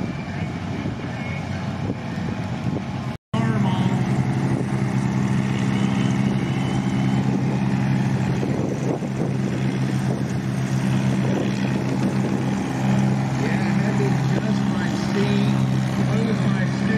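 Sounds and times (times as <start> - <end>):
tractor engine running steadily: 0.0 - 16.9.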